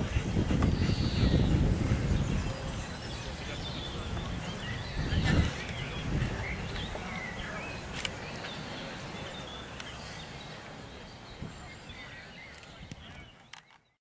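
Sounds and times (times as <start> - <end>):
low even background noise: 0.0 - 14.0.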